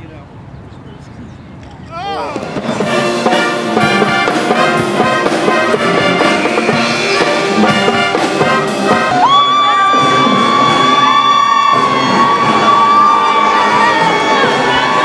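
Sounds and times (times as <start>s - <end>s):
brass music with rhythmic beat: 2.2s - 15.0s.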